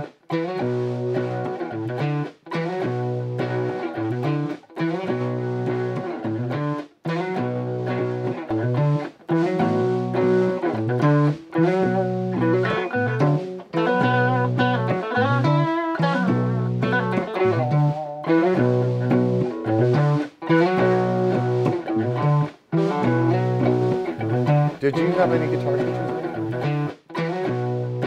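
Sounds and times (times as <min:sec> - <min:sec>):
electric guitar riff: 0:00.0 - 0:28.0.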